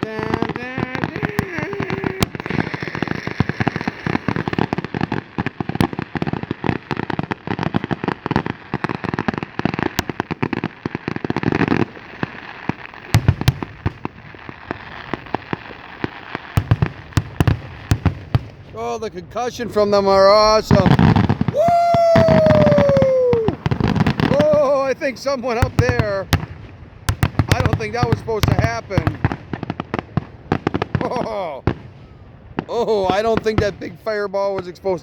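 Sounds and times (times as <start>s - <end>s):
fireworks booming: 0.0s - 35.0s
fireworks crackling: 0.0s - 35.0s.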